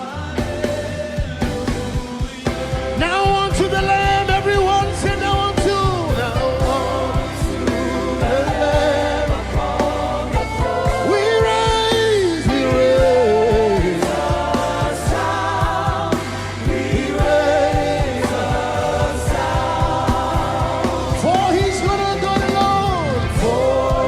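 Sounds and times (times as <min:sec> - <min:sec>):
band playing: 0:00.0 - 0:24.0
choir singing: 0:00.0 - 0:24.0
lead singer: 0:00.0 - 0:24.0
steady drum beat: 0:00.0 - 0:24.0.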